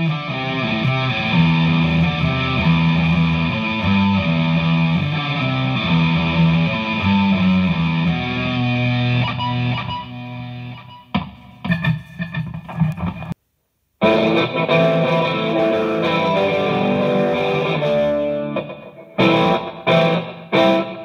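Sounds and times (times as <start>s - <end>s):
distorted electric guitar riff: 0.0s - 13.4s, 14.0s - 21.0s.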